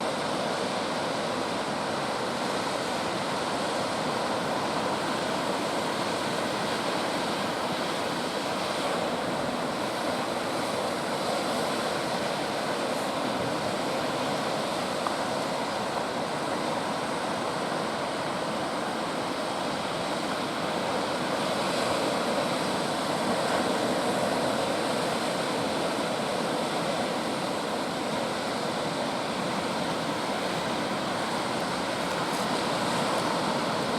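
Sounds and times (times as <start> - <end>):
ocean waves breaking on shore: 0.0 - 33.9.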